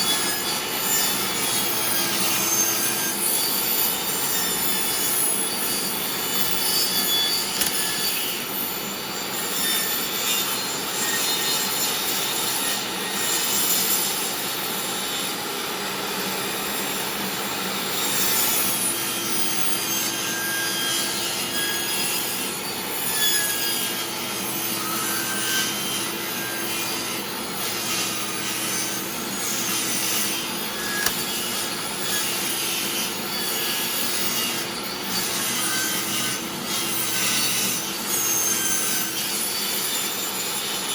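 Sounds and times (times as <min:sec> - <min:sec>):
table saw cutting wood: 0:00.0 - 0:40.9.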